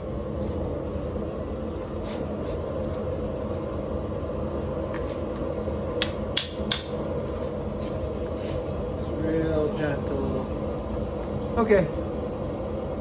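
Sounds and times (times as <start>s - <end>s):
forge rumbling hiss: 0.0s - 13.0s.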